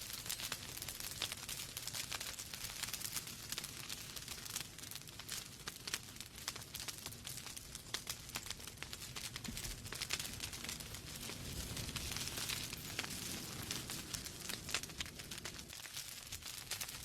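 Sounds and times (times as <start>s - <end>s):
fire crackling and popping: 0.0s - 17.0s
hiss of flames: 0.0s - 17.0s.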